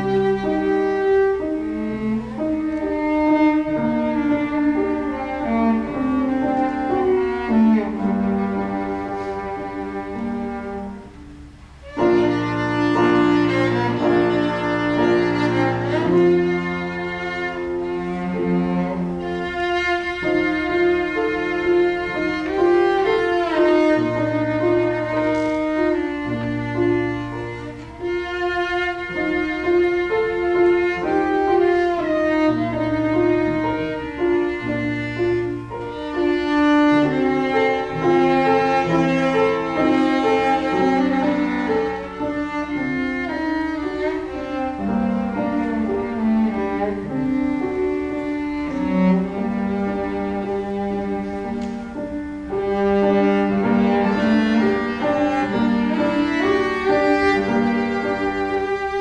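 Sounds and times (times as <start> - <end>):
bowed cello melody: 0.0 - 59.0
piano accompaniment: 0.0 - 59.0.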